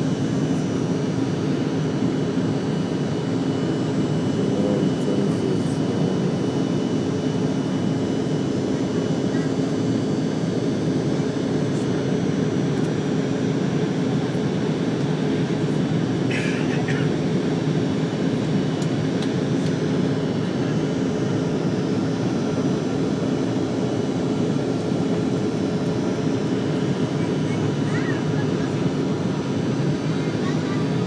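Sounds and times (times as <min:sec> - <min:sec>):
jet engine drone inside cabin: 0:00.0 - 0:31.0.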